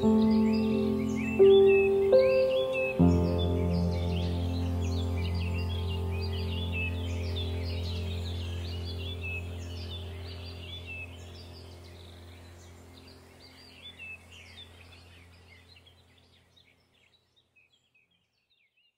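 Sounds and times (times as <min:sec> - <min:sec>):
steady low hum: 0:00.0 - 0:16.6
small birds chirping: 0:00.0 - 0:18.9.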